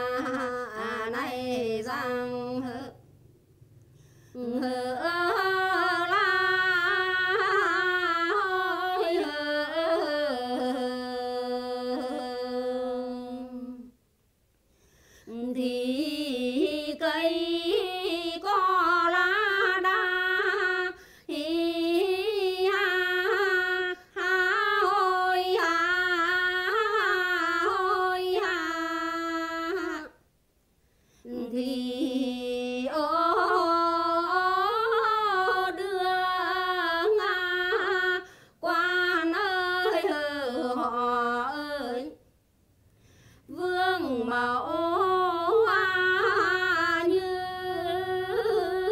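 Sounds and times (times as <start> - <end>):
woman singing unaccompanied: 0.0 - 3.1, 4.3 - 14.0, 15.3 - 30.2, 31.2 - 42.2, 43.4 - 48.9.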